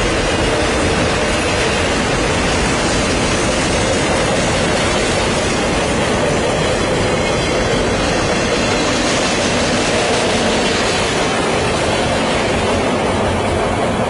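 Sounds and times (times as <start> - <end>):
freight train wheels on rail: 0.0 - 14.0.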